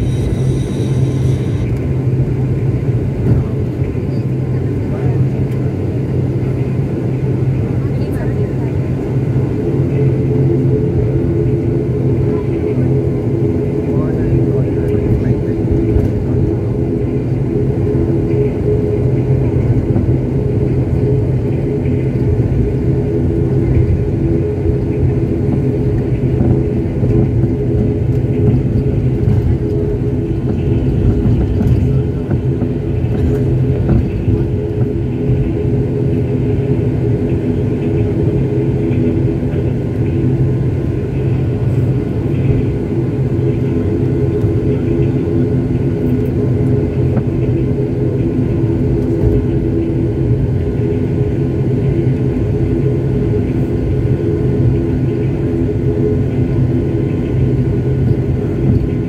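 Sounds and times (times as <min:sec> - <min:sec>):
propeller engine droning: 0:00.0 - 0:59.0.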